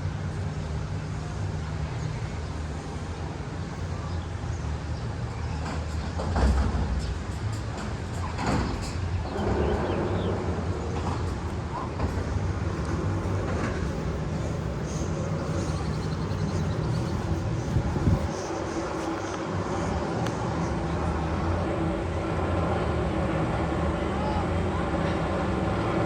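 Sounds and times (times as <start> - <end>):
train-like rumble: 0.0 - 26.0.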